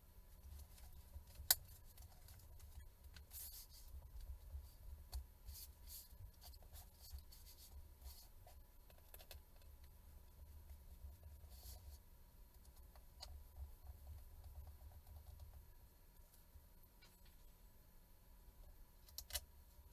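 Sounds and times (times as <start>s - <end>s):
light handling clicks and scratches: 0.3s - 17.6s, 19.0s - 19.9s.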